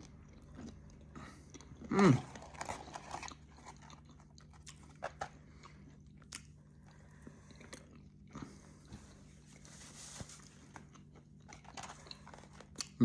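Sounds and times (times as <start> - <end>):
low steady hum: 0.0 - 13.0
person chewing fries: 0.0 - 13.0.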